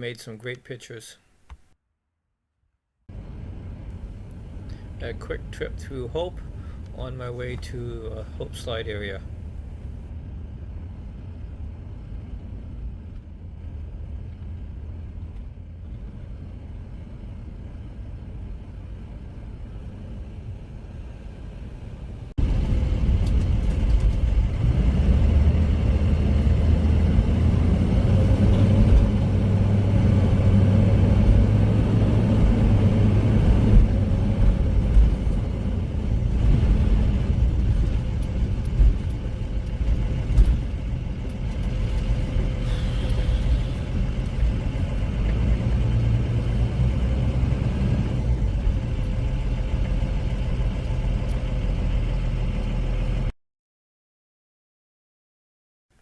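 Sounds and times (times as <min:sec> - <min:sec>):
vehicle engine and road noise: 0:03.1 - 0:53.3.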